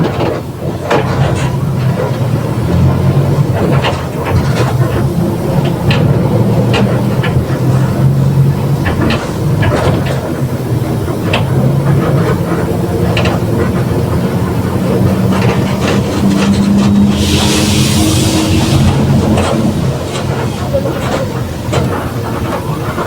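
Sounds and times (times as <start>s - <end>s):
bus drivetrain drone: 0.0s - 23.0s.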